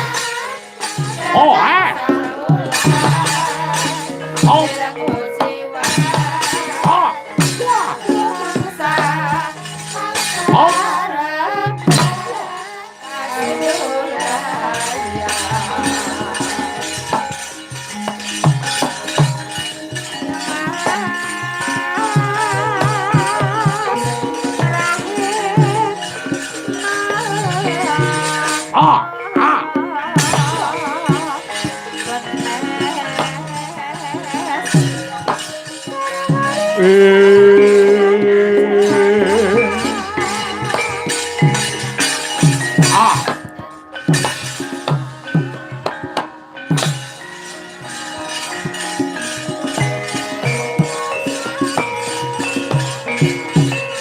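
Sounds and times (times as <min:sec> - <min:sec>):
gamelan music: 0:00.0 - 0:54.0
metallic rattling clashes: 0:00.0 - 0:54.0
ringing metallophone tones: 0:00.0 - 0:54.0
sharp drum and metal strikes: 0:00.0 - 0:54.0.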